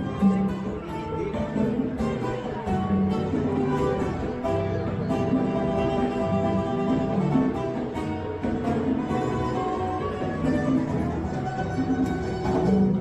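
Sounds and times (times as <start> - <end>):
music with guitar and strings: 0.0 - 13.0.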